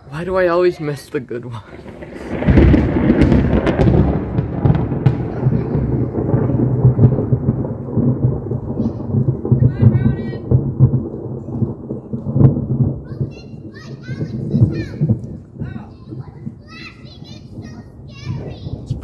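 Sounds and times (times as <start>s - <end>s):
loud thunder cracking and rumbling: 0.1s - 19.0s.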